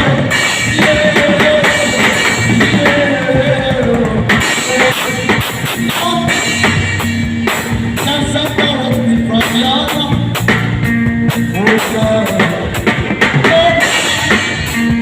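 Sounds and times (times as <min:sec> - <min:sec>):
person singing: 0:00.0 - 0:06.6, 0:08.0 - 0:10.4, 0:11.4 - 0:15.0
drum kit playing: 0:00.0 - 0:15.0
guitar: 0:00.0 - 0:15.0.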